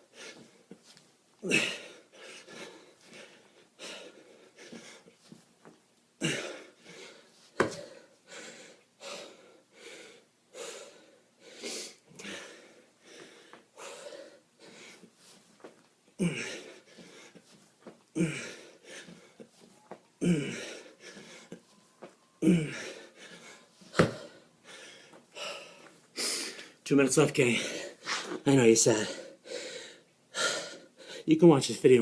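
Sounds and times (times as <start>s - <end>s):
man breathing hard: 1.4s - 5.2s, 6.2s - 15.1s, 16.2s - 19.6s, 20.2s - 21.7s, 22.4s - 26.8s, 27.4s - 31.3s.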